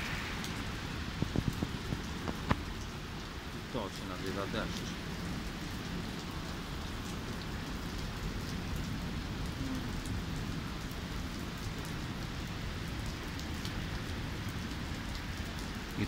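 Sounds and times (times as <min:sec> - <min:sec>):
heavy rain hissing: 0:00.0 - 0:15.1.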